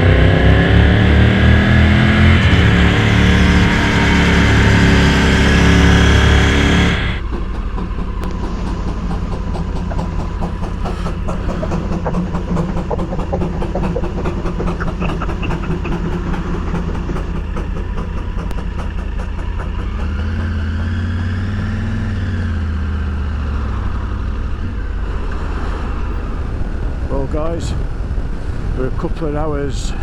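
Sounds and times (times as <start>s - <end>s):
motorcycle engine running: 0.0s - 28.8s
road noise: 0.0s - 30.0s.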